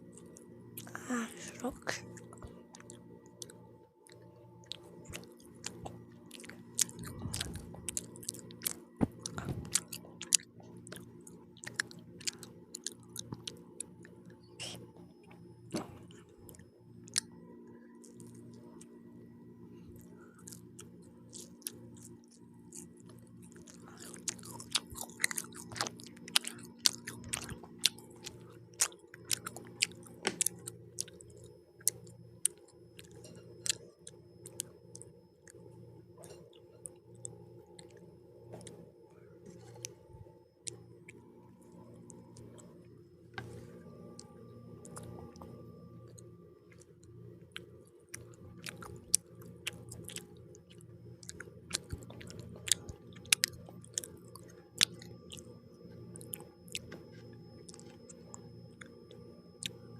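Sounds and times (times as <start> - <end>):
person chewing food: 0.1 - 17.3, 18.0 - 19.0, 19.9 - 38.8, 39.4 - 59.9.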